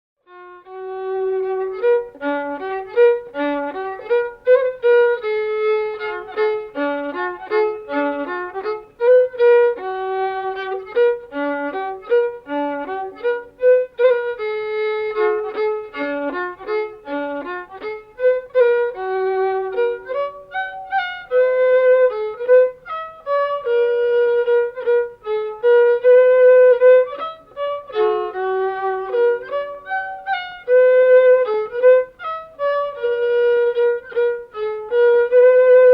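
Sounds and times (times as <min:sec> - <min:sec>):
violin melody: 0:00.2 - 0:35.9.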